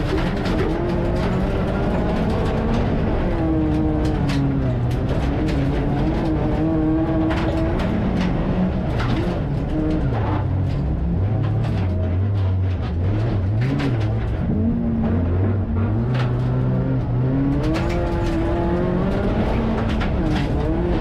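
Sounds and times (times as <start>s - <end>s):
car engine revving down: 0.0s - 21.0s.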